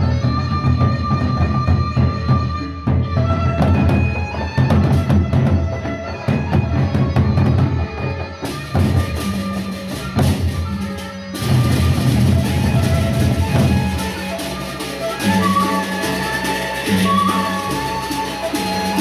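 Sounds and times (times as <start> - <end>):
barrel drums beating: 0.0 - 19.0.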